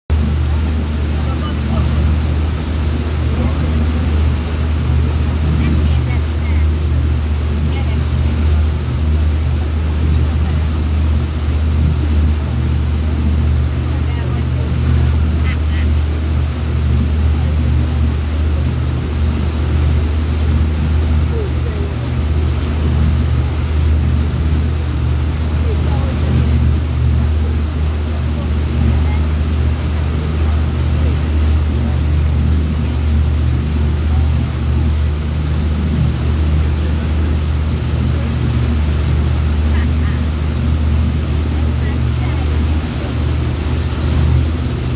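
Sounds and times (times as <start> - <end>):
motorboat engine droning: 0.1 - 44.9
rushing wake water: 0.1 - 44.9.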